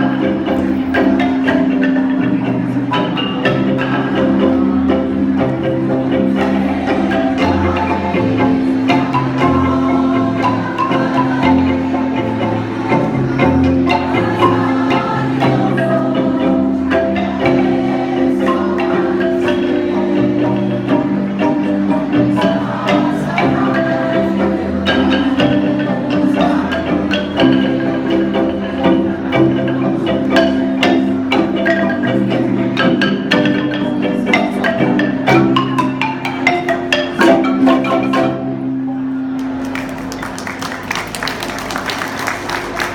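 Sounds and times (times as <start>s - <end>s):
wooden xylophones playing: 0.0s - 42.9s.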